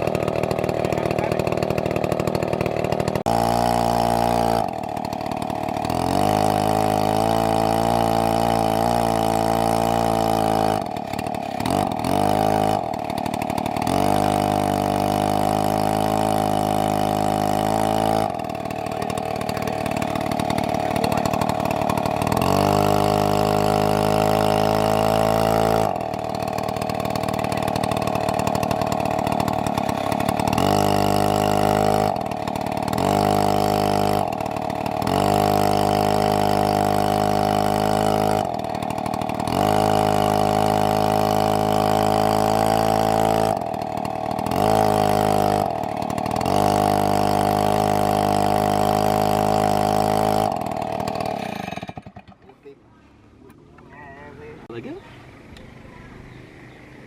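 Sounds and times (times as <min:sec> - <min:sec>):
chainsaw revving and idling: 0:00.0 - 0:52.8.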